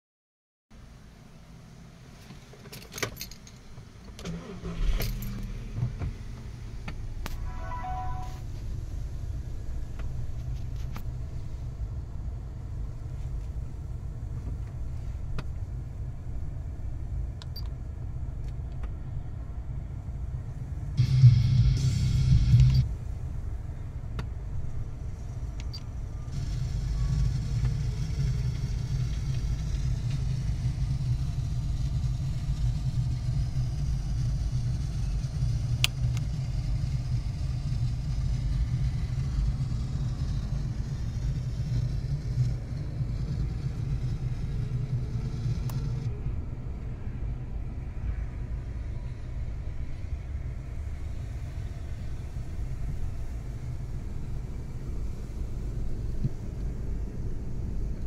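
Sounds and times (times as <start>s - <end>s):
car engine rumble from cabin: 0.8s - 58.0s.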